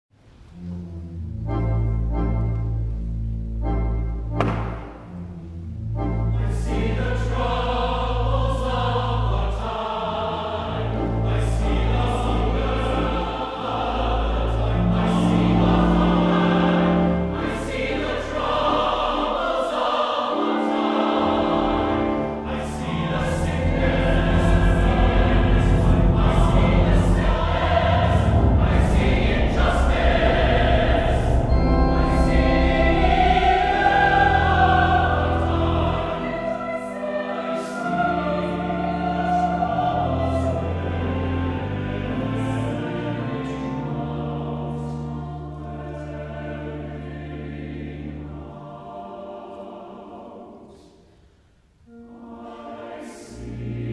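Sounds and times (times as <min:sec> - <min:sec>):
pipe organ low pedal notes: 0:00.5 - 0:48.4
mixed choir singing: 0:06.3 - 0:51.2, 0:51.9 - 0:53.9.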